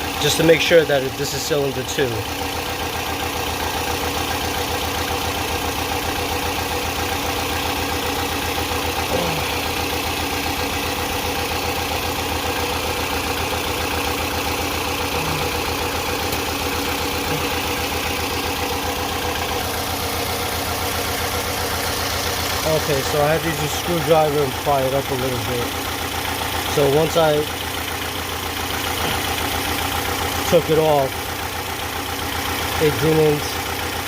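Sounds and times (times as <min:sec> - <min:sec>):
car engine idling roughly: 0:00.0 - 0:34.0.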